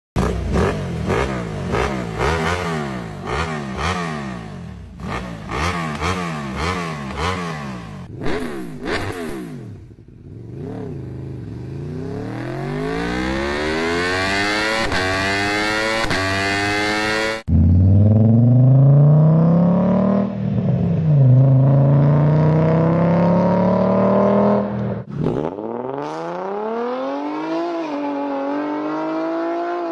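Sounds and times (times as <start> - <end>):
motorcycle engine revving: 0.2 - 29.9.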